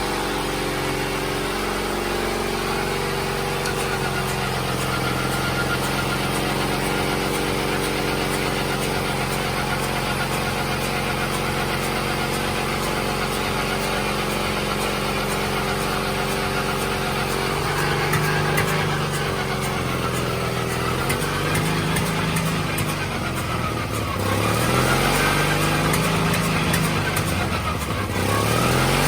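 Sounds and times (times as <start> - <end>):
bulldozer engine running: 0.0 - 29.0.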